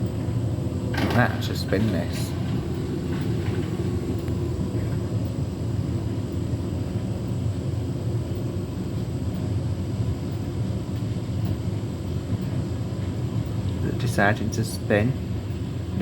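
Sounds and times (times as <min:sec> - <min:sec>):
washing machine drum rumbling: 0:00.0 - 0:16.0.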